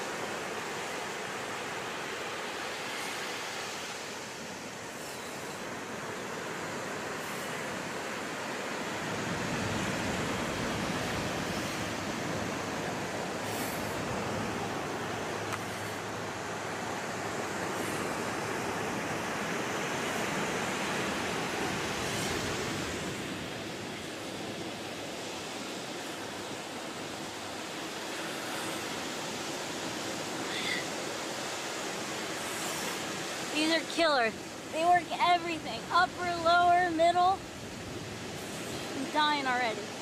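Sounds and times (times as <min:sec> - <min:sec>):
ocean surf: 0:00.0 - 0:40.0
wind on the beach: 0:00.0 - 0:40.0.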